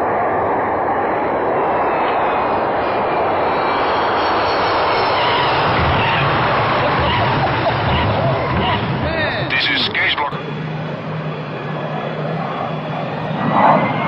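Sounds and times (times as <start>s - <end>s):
deep rumble: 0.0s - 14.0s
jet engines running: 0.0s - 14.0s.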